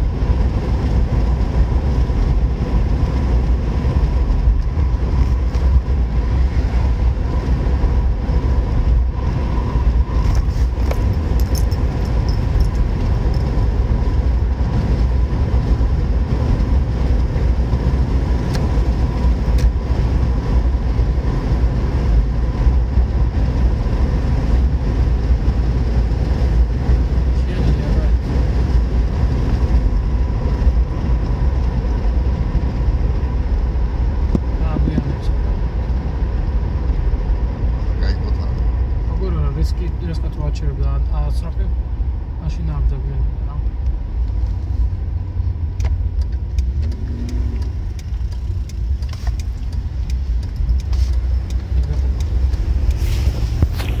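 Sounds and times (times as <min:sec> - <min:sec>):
road and engine noise in car: 0:00.0 - 0:54.0.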